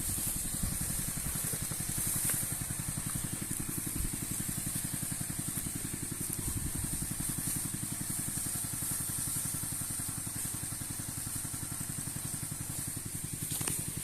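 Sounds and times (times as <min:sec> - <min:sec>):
high spray hiss: 0:00.0 - 0:14.0
power sprayer engine running: 0:00.0 - 0:14.0.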